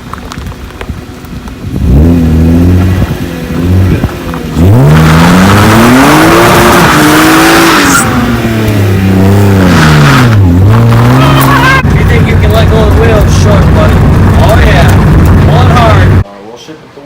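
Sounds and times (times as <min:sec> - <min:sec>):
car engine revving: 0:00.1 - 0:16.2.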